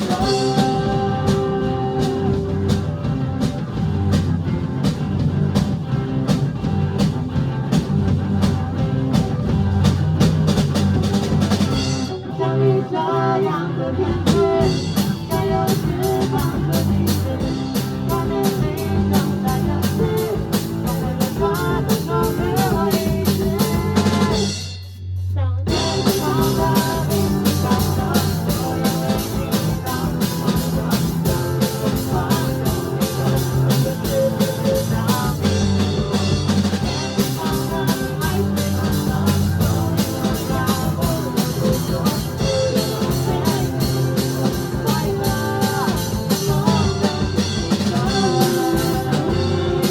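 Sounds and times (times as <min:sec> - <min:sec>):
band music with drums: 0:00.0 - 0:49.9.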